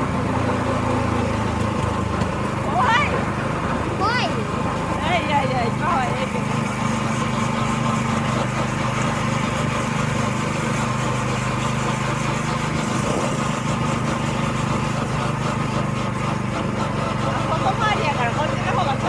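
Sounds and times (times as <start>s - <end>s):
go-kart engine running: 0.0s - 19.0s.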